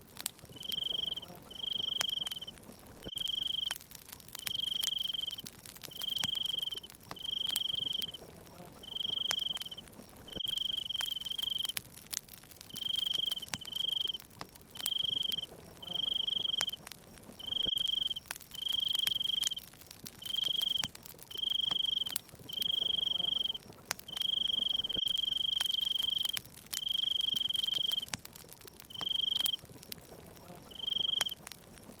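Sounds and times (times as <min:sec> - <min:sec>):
wood fire crackling: 0:00.0 - 0:32.0
cricket chirping: 0:00.4 - 0:11.8, 0:12.5 - 0:32.0.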